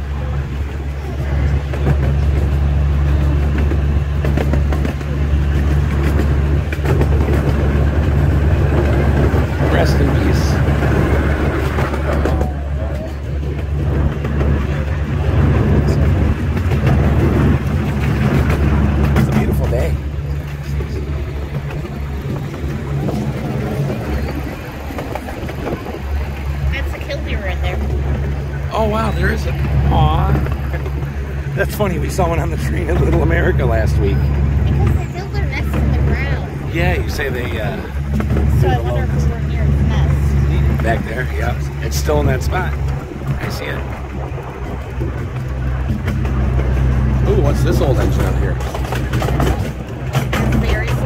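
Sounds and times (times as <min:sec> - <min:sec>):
ride train rumbling on track: 0:00.0 - 0:51.0
wheels clicking on rails: 0:00.0 - 0:51.0.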